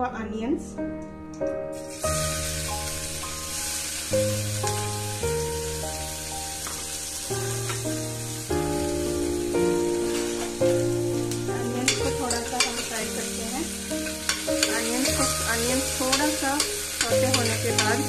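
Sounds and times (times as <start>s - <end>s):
background music: 0.0s - 18.0s
onions sizzling in oil: 1.7s - 18.0s.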